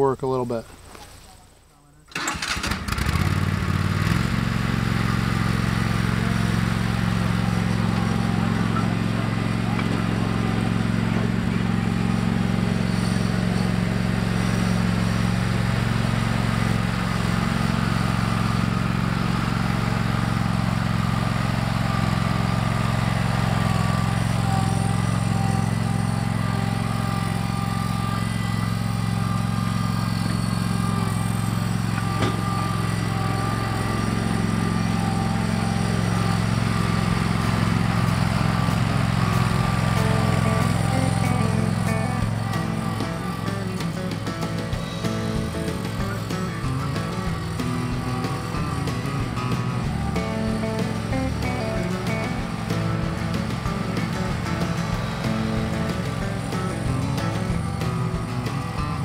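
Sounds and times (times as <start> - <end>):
tractor engine under load: 2.0 - 59.0.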